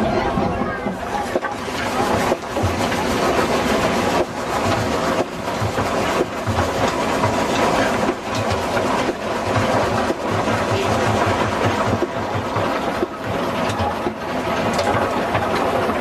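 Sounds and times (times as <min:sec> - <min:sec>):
steam engine running: 0:00.0 - 0:16.0.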